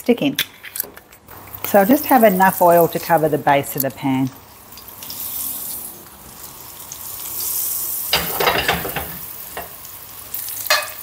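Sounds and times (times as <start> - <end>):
hot oil sizzling in a frying pan: 1.3 - 11.0.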